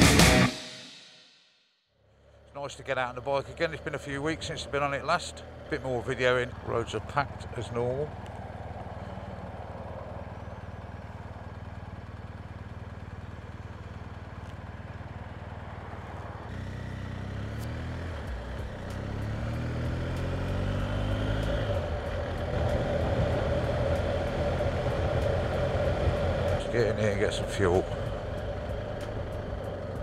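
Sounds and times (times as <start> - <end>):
motorcycle engine: 0.0 - 1.0, 2.0 - 30.0
wind and road noise: 2.1 - 30.0.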